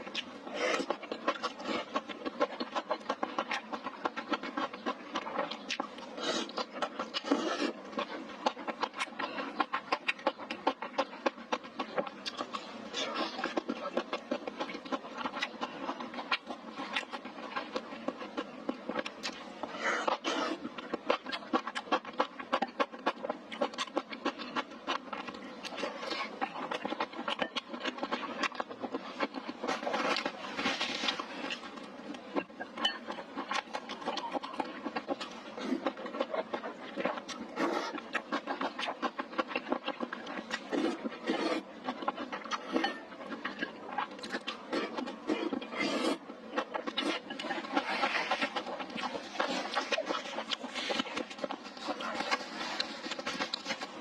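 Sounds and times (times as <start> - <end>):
chewing and mouth smacking: 0.0 - 54.0.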